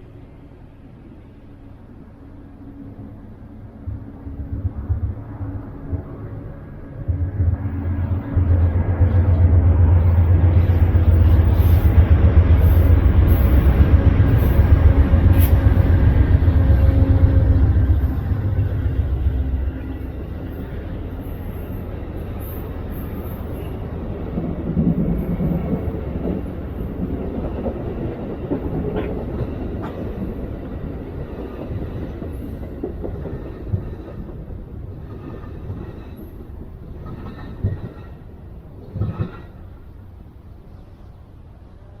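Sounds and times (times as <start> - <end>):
deep locomotive rumble: 0.0 - 42.0
train rumbling past: 0.0 - 42.0.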